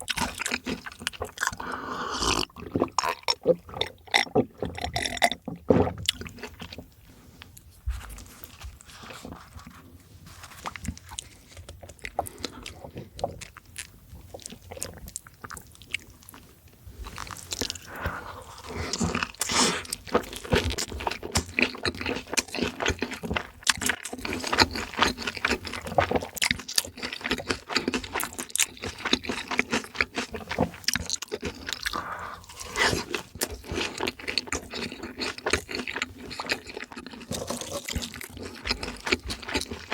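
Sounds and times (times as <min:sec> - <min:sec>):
chewing crispy fried food: 0:00.0 - 0:39.9.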